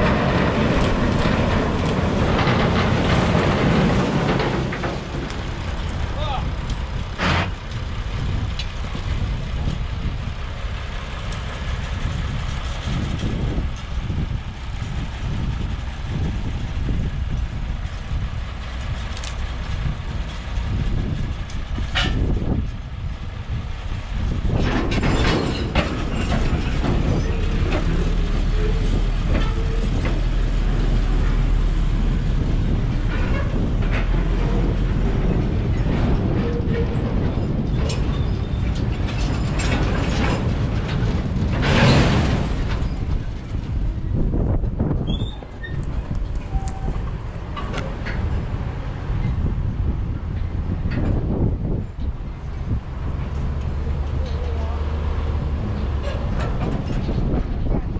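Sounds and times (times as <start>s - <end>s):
heavy machinery engines running: 0.0s - 57.9s.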